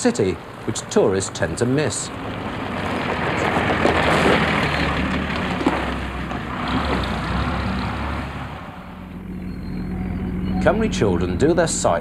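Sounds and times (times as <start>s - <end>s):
motor coach driving past: 0.1s - 12.0s.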